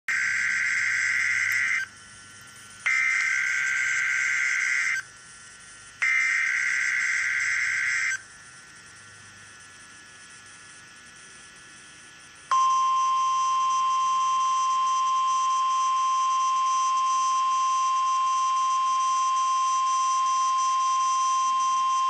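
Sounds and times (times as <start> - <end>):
buzzy digital data tones: 0.1 - 22.0.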